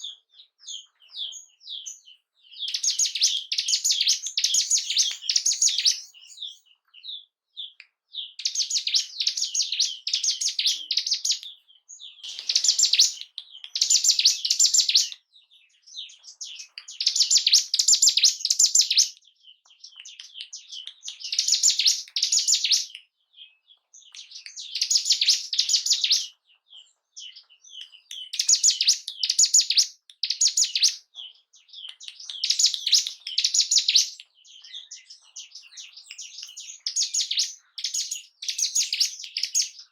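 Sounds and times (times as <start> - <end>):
bird chips: 0.0 - 6.6, 8.4 - 23.0, 27.2 - 39.9
bird trilled song: 0.0 - 39.9.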